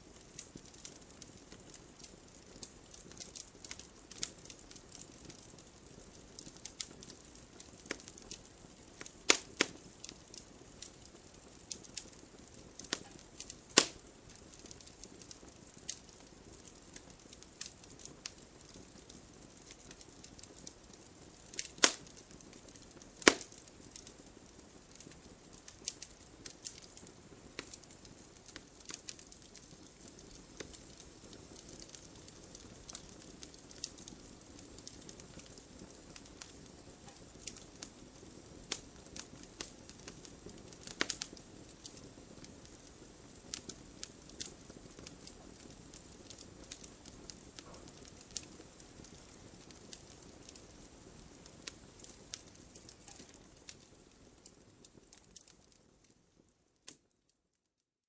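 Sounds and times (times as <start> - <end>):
wood fire crackling: 0.0 - 57.5
faint low hiss: 0.0 - 58.0.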